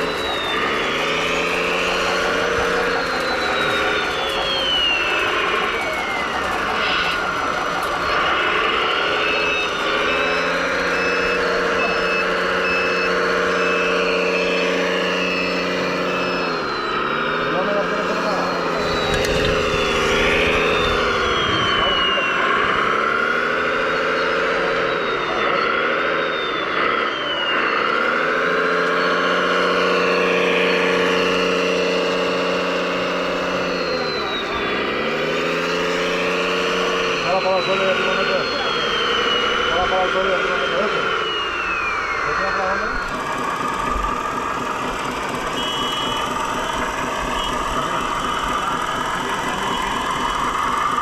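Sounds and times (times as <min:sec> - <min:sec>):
electric motor whine: 0:00.0 - 0:51.0
reversing beeper: 0:00.0 - 0:51.0
steady engine-like hum: 0:00.0 - 0:51.0.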